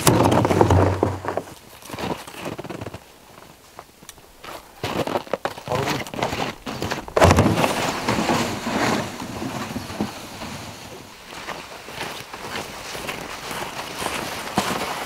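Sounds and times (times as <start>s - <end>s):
plastic sled scraping over snow: 0.0s - 3.5s, 4.5s - 15.0s
snowshoe steps crunching: 0.4s - 3.8s, 4.4s - 15.0s.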